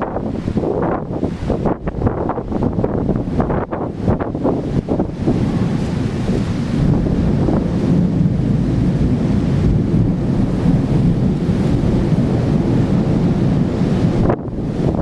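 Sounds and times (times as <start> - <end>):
heavy rain pouring: 0.0 - 15.0
wind buffeting microphone: 0.0 - 15.0.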